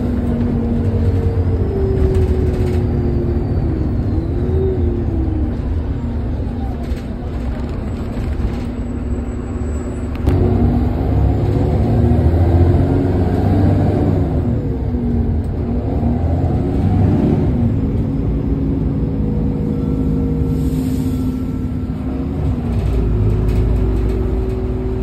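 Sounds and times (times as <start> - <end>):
bus engine accelerating: 0.0 - 25.0.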